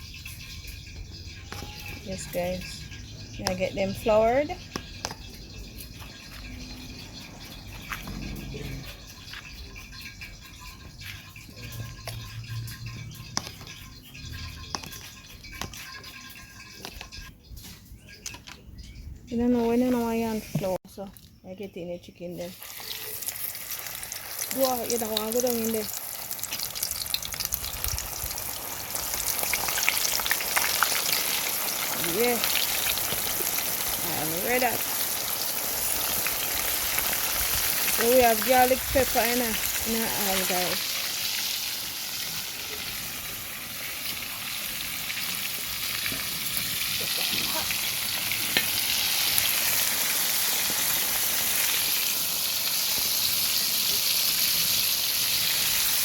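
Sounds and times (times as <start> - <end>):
chicken deep-frying in oil: 0.0 - 21.4, 22.1 - 56.0.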